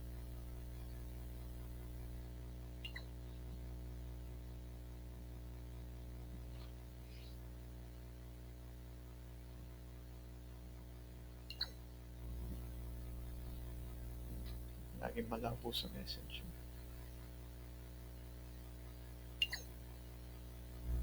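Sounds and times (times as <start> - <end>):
faint electrical mains hum: 0.0 - 21.0.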